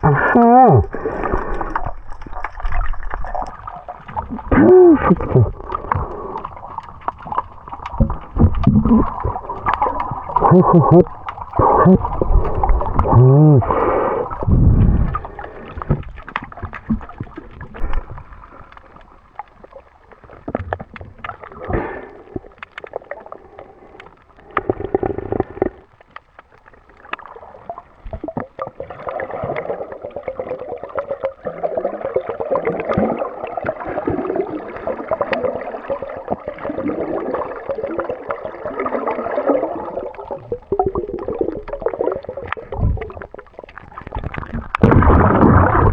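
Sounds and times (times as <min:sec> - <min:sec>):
water gurgling and bubbling: 0:00.0 - 0:25.9, 0:26.9 - 0:45.9.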